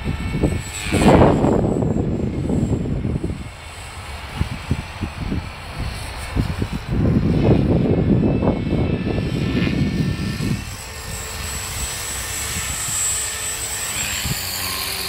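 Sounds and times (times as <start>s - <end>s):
rc helicopter motor whine: 0.0s - 15.0s
wind buffeting microphone: 0.0s - 15.0s.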